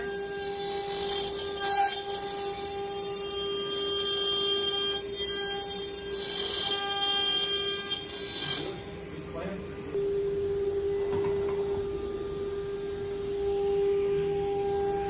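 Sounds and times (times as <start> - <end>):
router spindle whine: 0.0 - 15.0.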